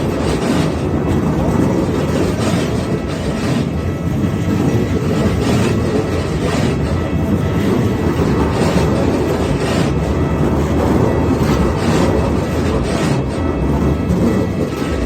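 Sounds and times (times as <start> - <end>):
electric train passing: 0.0 - 15.0
train wheels clattering on rails: 0.0 - 15.0.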